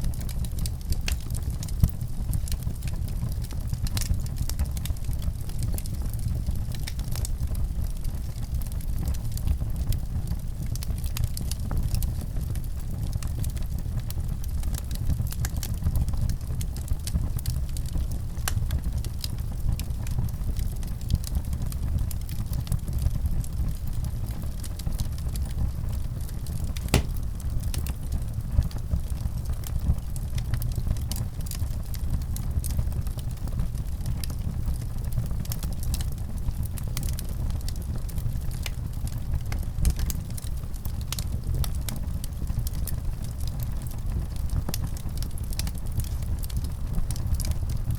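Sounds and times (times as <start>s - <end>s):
fireplace fire crackling: 0.1s - 19.7s, 20.3s - 28.2s, 28.8s - 47.9s.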